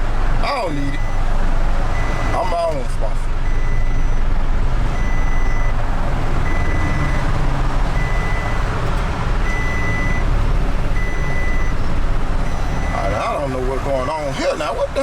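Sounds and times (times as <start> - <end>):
truck engine running: 0.0 - 15.0
truck reversing alarm beeping: 0.4 - 1.3, 1.9 - 5.8, 6.4 - 8.8, 9.4 - 14.9.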